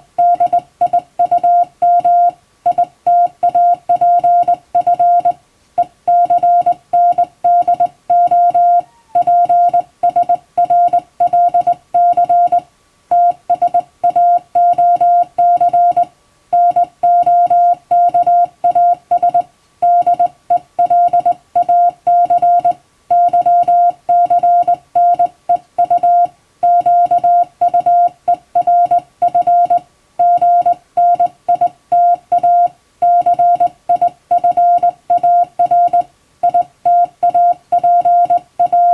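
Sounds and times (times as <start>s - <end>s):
morse code beeps: 0.2s - 5.4s, 6.1s - 38.9s.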